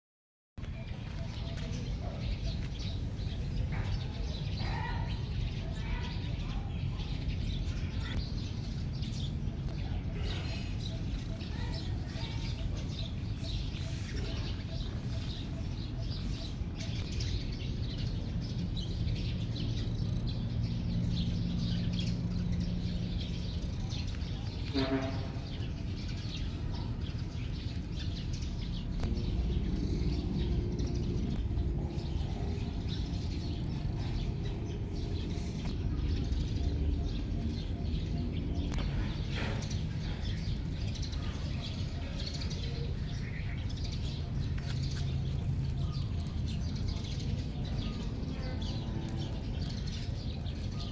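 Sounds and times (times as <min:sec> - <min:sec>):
small birds chirping: 0:00.6 - 0:50.9.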